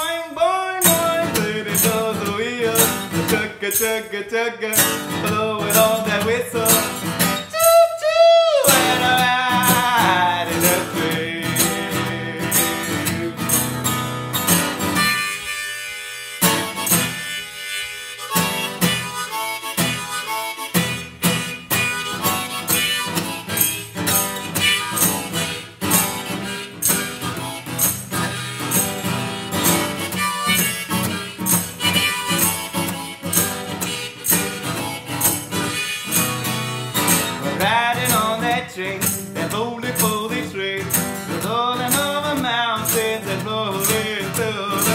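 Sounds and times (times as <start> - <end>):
harmonica playing: 0.0 - 44.9
strummed acoustic guitar: 0.0 - 44.9.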